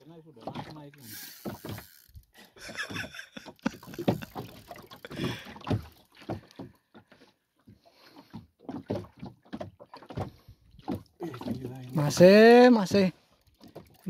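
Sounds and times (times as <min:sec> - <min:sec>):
water slapping against boat hull: 0:00.0 - 0:02.0, 0:02.6 - 0:14.0.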